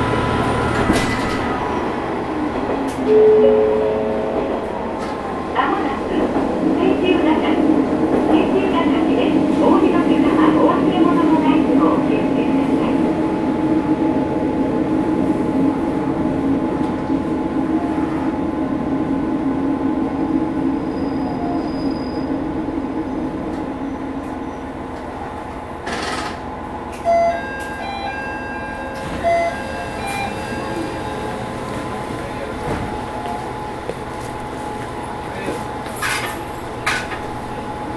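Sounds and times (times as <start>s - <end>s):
railcar engine hum: 0.0s - 37.9s.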